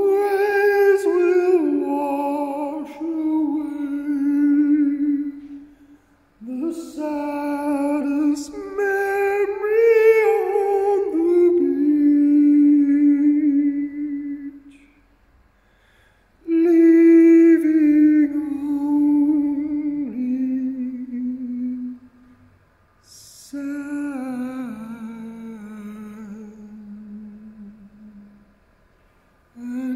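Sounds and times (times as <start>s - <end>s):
man singing wordless held notes: 0.0s - 15.0s, 16.4s - 22.2s, 23.0s - 28.4s, 29.5s - 29.9s.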